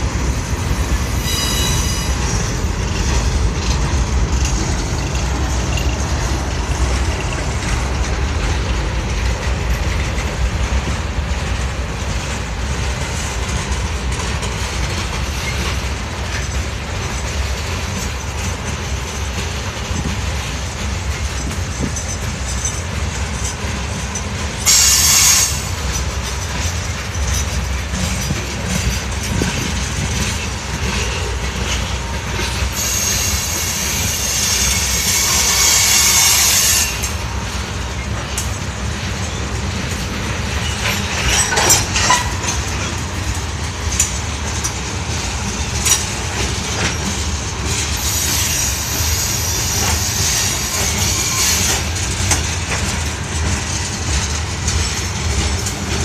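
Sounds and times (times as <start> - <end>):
train wheel screech: 0.0 - 7.8, 14.5 - 18.5, 19.1 - 38.5, 39.2 - 43.0, 45.5 - 56.0
freight train rumbling past: 0.0 - 56.0
wheels clacking over rail joints: 0.0 - 56.0.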